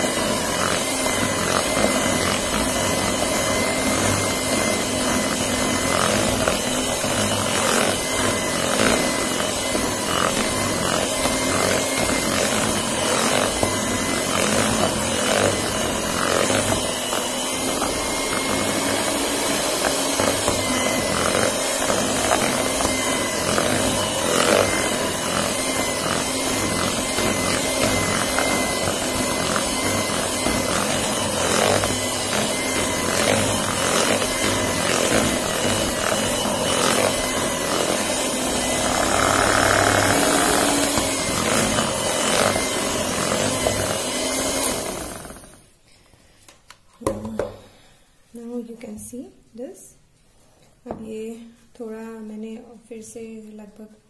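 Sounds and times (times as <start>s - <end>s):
beaters scraping bowl: 0.0s - 45.6s
electric hand mixer whirring: 0.0s - 45.8s.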